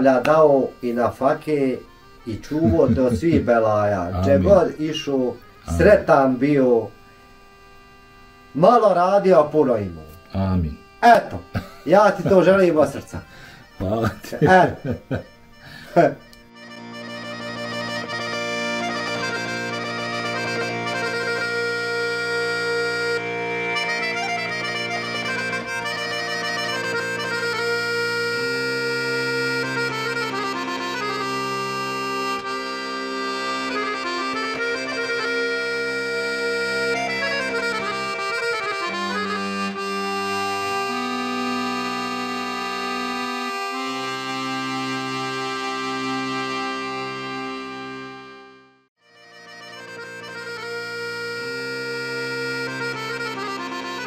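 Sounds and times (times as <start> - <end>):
music of long held chords: 0.0 - 54.0.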